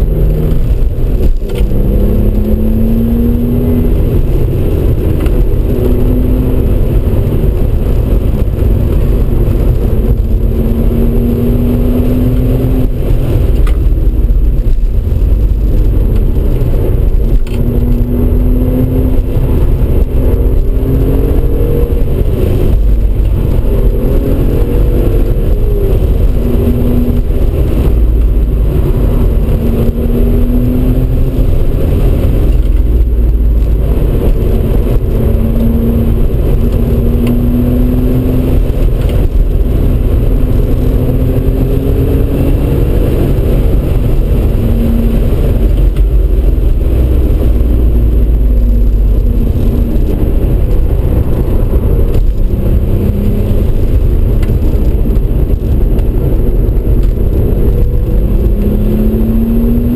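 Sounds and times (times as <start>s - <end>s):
car engine accelerating: 0.0s - 59.9s
road and wind noise: 0.0s - 59.9s.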